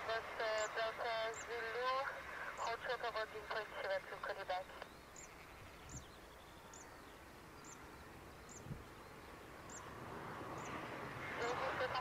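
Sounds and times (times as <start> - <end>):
distant jet engine noise: 0.0 - 12.0.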